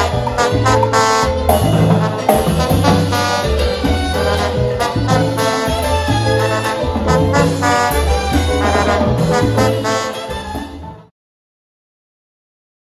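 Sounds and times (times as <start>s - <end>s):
walking bass: 0.0s - 11.0s
drum kit with timbales and cymbals: 0.0s - 11.1s
horn section playing riffs: 0.0s - 11.1s.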